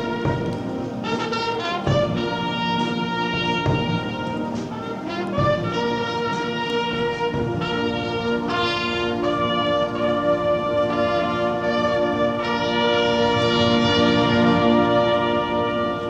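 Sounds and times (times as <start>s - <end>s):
military brass bands playing: 0.0s - 16.0s.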